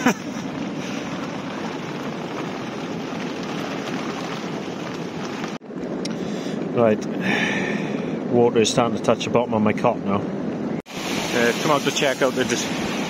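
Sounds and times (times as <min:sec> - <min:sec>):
heavy rain pouring: 0:00.0 - 0:08.8, 0:10.9 - 0:13.0.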